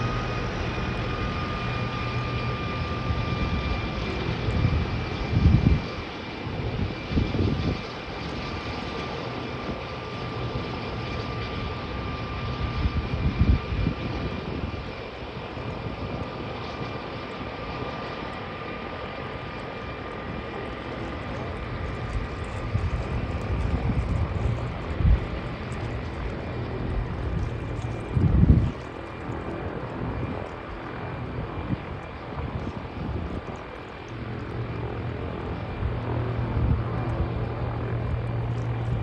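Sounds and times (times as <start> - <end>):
floatplane engine and propeller whine: 0.0 - 39.0.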